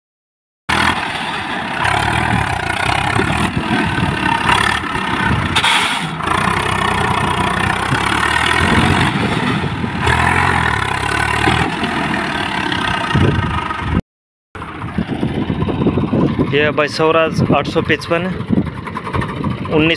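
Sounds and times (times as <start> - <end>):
tractor diesel engine running: 0.7 - 14.0, 14.6 - 19.9.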